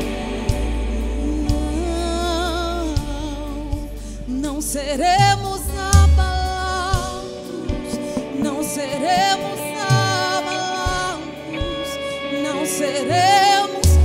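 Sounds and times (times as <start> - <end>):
woman singing with vibrato: 0.0 - 14.0
worship band playing: 0.0 - 14.0.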